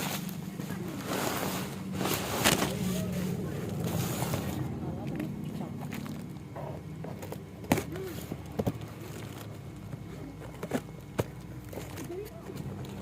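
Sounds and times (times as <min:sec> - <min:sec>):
faint low murmur: 0:00.0 - 0:13.0.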